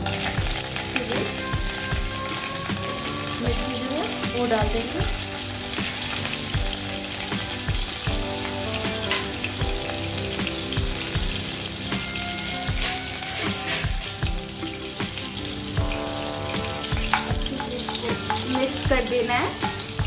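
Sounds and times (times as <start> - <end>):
background music with steady beat: 0.0 - 20.0
food sizzling in hot oil: 0.0 - 20.0.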